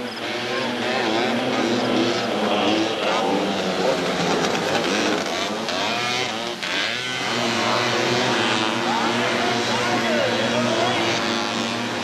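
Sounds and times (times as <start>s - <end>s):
off-road buggy engines revving: 0.0s - 12.0s.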